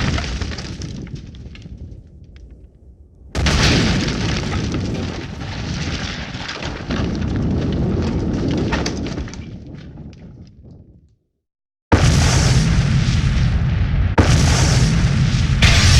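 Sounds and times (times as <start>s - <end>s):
explosion blast with rumbling tail: 0.0s - 10.7s, 11.9s - 15.9s.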